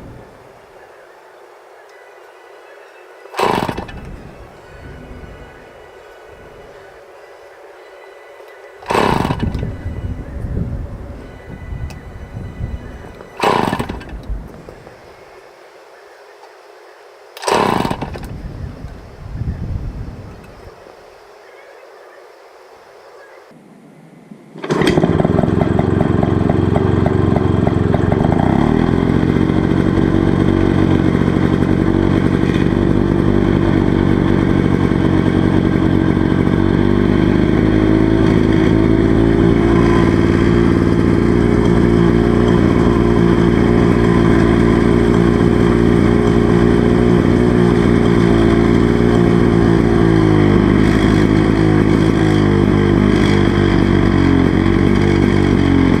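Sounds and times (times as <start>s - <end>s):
mower engine starting and running: 0.0s - 1.7s, 3.2s - 15.6s, 16.5s - 21.4s, 24.6s - 56.0s.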